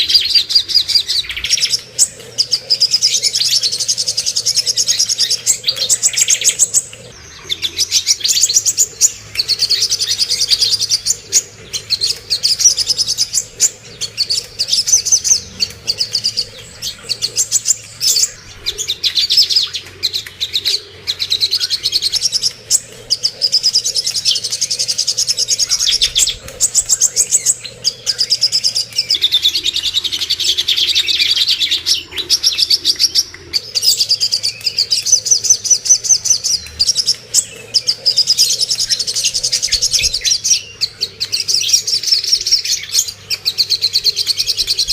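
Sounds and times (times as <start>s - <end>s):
birds chirping trills: 0.0s - 44.9s.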